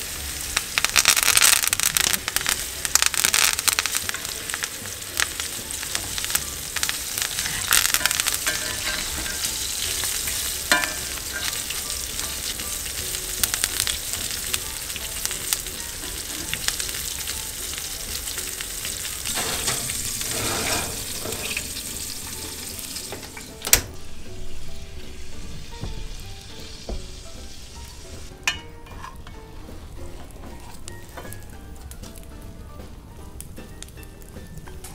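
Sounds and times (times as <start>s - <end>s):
steak sizzling in a skillet: 0.0s - 32.5s.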